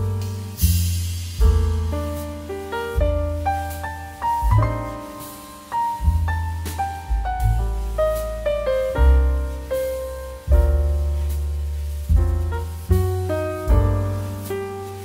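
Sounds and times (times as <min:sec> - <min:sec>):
jazz piano music: 0:00.0 - 0:15.0.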